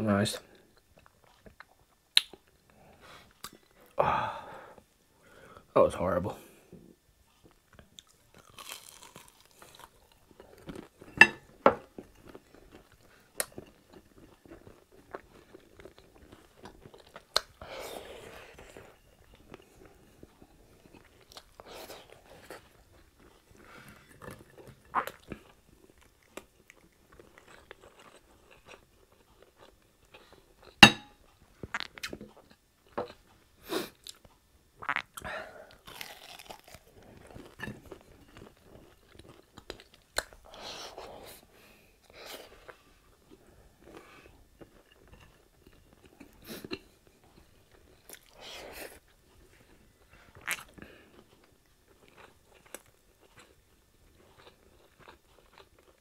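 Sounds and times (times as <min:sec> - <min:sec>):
chewing and crunching food: 0:00.4 - 0:04.0, 0:07.2 - 0:56.0.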